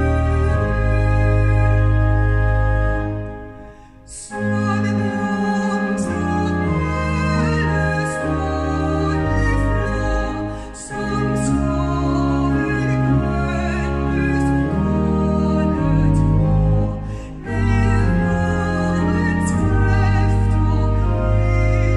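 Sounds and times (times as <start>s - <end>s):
church organ: 0.0s - 21.9s
woman singing classical hymn: 4.1s - 21.9s.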